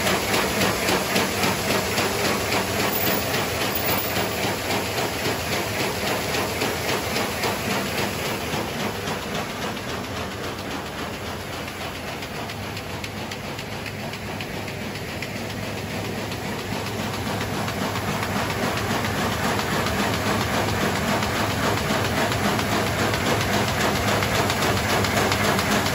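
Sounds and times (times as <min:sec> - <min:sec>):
machine rapid mechanical clatter: 0:00.0 - 0:25.9.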